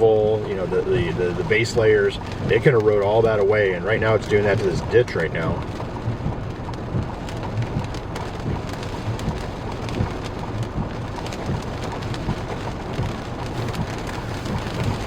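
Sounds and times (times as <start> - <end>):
floodwater rushing and splashing: 0.0 - 15.0.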